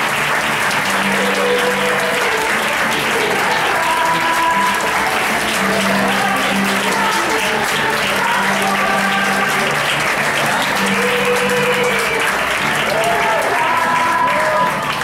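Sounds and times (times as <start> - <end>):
audience clapping: 0.0 - 15.0
music with long held notes: 0.0 - 15.0.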